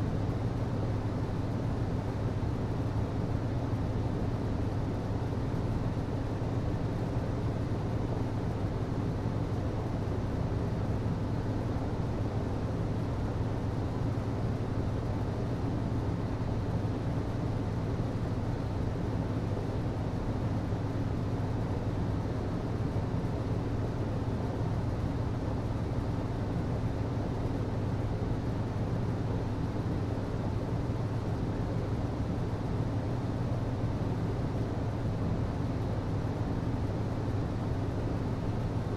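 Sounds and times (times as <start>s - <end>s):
hvac system hum with air rush: 0.0s - 38.9s.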